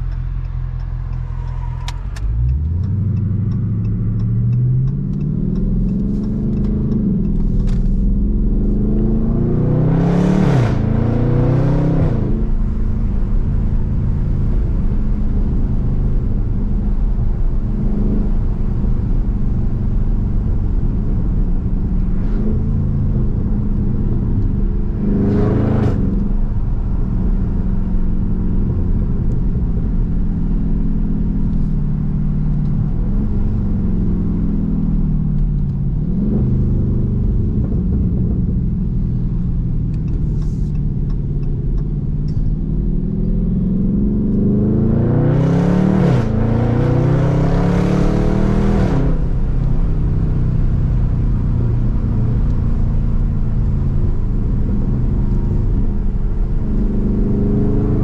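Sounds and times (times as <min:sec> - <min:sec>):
car engine accelerating: 0:00.0 - 0:58.0
road rumble: 0:00.0 - 0:58.0.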